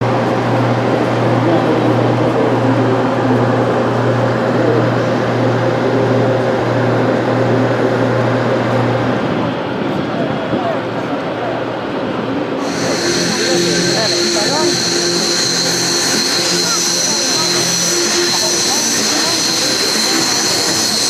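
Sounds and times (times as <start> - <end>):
continuous noisy background: 0.0 - 21.0.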